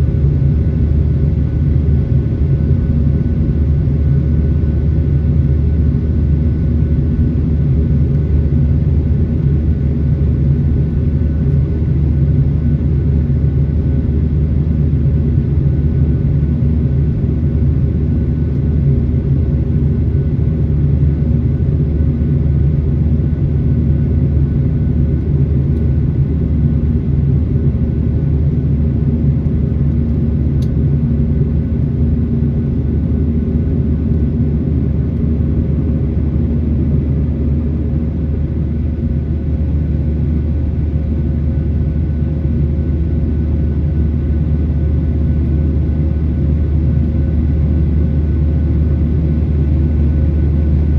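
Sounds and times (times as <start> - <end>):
deep aircraft cabin rumble: 0.0 - 50.9.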